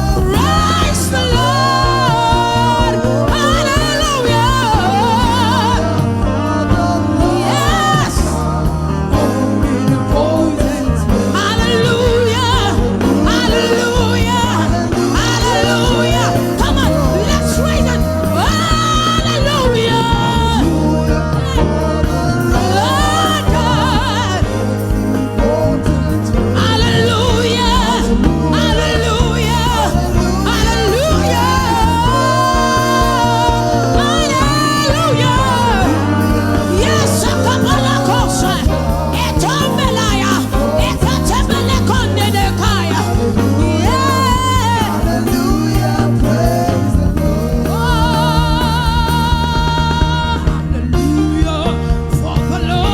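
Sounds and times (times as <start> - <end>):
held backing chords: 0.0 - 52.9.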